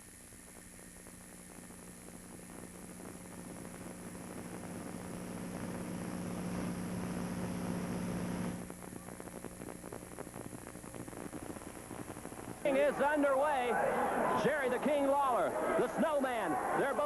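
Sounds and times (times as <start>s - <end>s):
crackly noise: 0.0s - 17.0s
mains hum: 0.0s - 17.0s
tape hiss: 0.0s - 17.0s.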